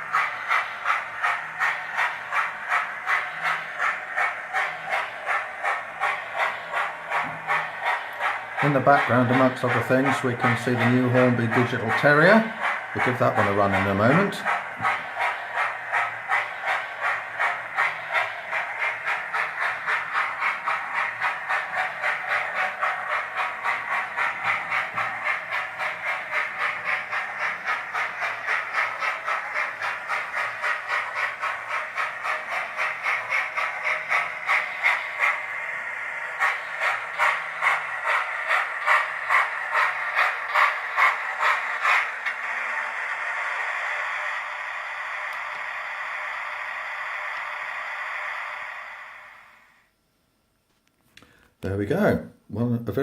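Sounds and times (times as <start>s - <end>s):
model steam locomotive chuffing: 0.0s - 50.0s.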